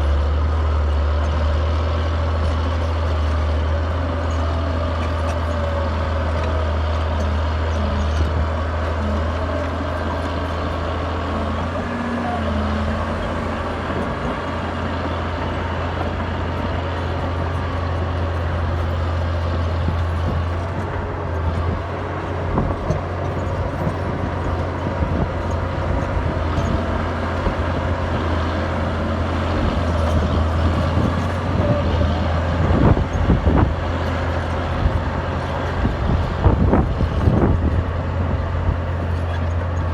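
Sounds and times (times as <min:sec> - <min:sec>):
diesel engine droning: 0:00.0 - 0:39.9
tracks clanking and rock crunching: 0:00.0 - 0:39.9.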